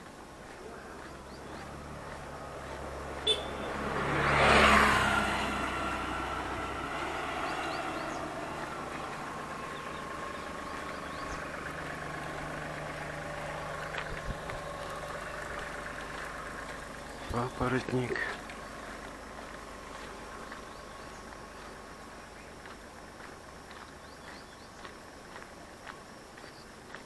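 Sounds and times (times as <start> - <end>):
small motorcycle engine humming: 0.0 - 27.0
vehicle passing by: 0.0 - 27.0.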